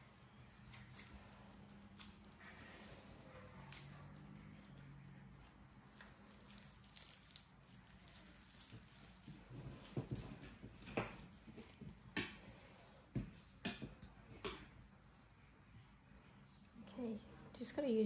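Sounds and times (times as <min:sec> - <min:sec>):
wire being handled: 0:00.0 - 0:15.4.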